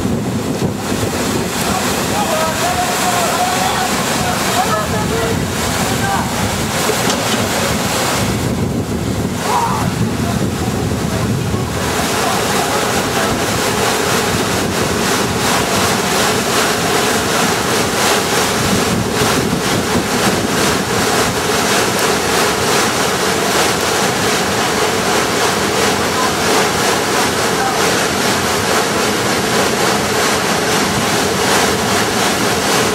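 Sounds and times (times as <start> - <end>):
whitewater rushing: 0.0 - 32.9
wind on microphone: 0.0 - 32.9.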